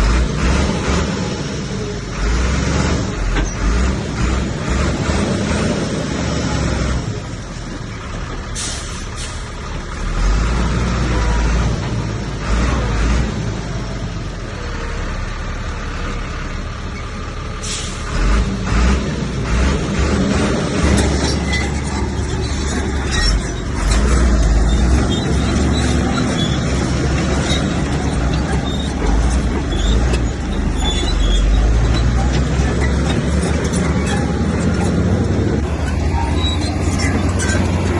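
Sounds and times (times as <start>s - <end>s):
diesel earthmoving machinery rumble: 0.0s - 37.9s.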